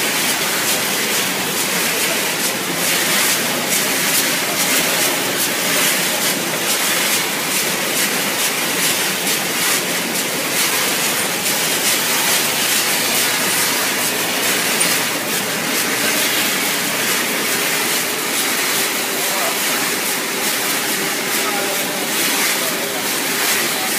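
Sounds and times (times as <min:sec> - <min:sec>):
kibble rattling in a rotating drum: 0:00.0 - 0:23.9.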